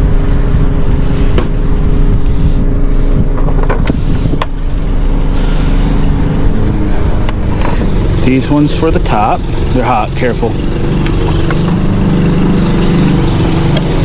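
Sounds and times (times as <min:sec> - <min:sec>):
low motor-like drone: 0:00.0 - 0:14.0.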